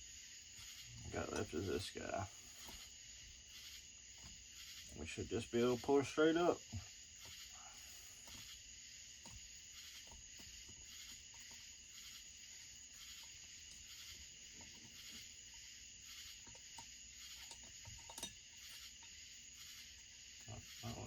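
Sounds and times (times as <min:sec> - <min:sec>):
faint high hiss: 0:00.0 - 0:21.0.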